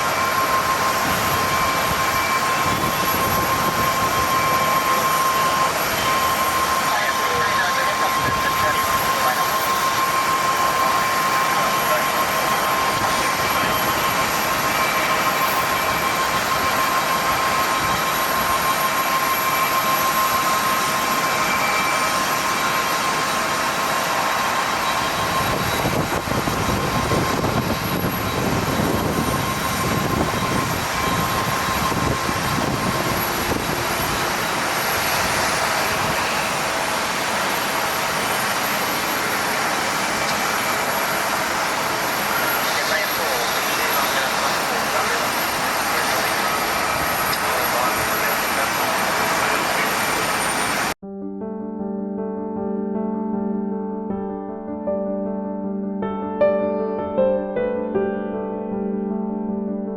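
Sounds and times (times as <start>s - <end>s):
jet engines whining and roaring: 0.0s - 51.0s.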